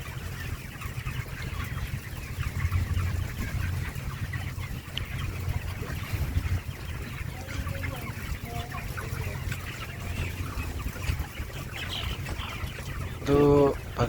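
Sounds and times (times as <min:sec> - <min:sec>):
chickens chirping and clucking: 0:00.0 - 0:14.0.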